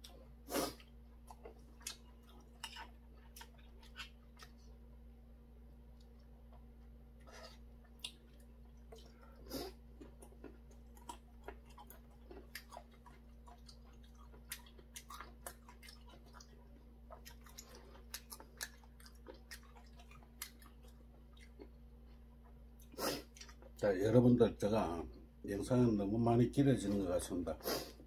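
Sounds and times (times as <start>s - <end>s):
man chewing food: 0.0s - 23.8s
low steady hum: 0.0s - 28.0s.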